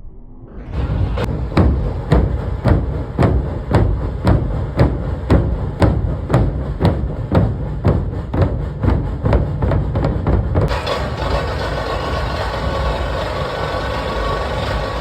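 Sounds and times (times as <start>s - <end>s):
large drums beating: 0.7s - 15.0s.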